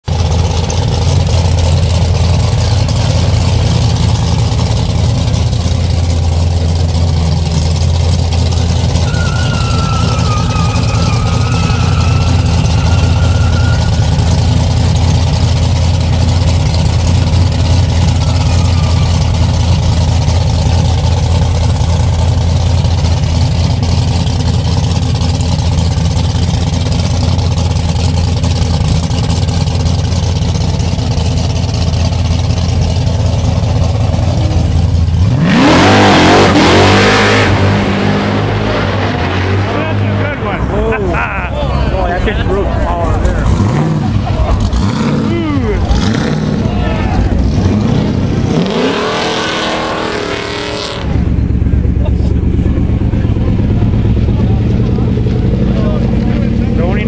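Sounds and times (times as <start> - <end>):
car engine idling loudly: 0.0 - 57.0.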